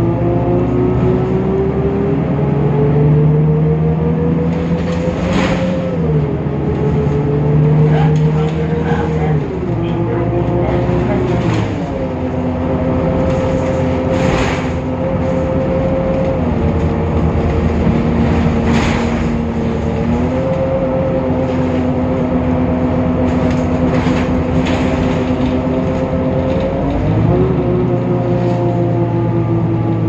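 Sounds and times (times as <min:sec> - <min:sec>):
bus engine whine: 0:00.0 - 0:30.0.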